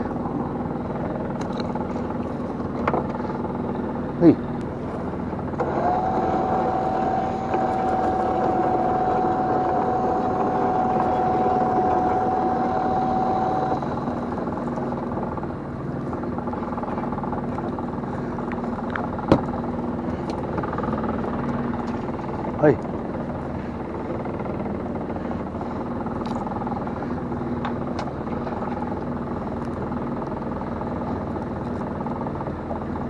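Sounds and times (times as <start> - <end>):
boat engine running: 0.0 - 33.0
machinery whine: 0.0 - 33.0.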